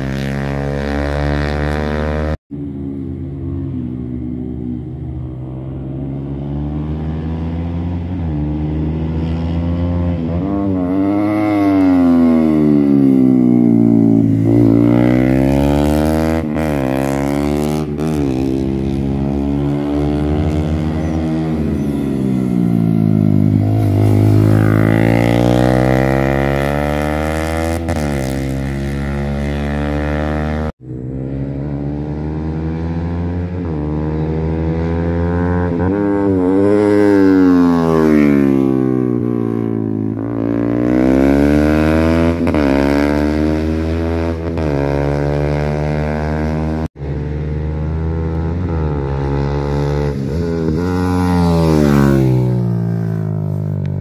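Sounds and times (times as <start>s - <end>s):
racing motorcycle engines: 0.0s - 54.0s.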